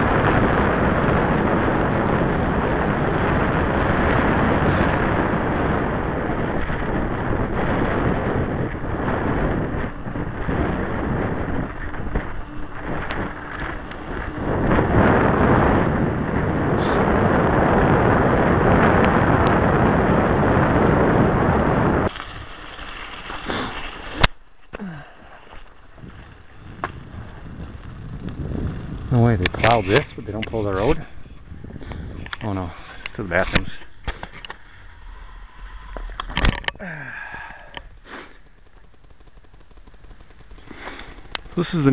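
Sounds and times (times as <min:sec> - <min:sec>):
bicycle rolling noise: 0:00.0 - 0:41.9
wind buffeting microphone: 0:00.0 - 0:41.9.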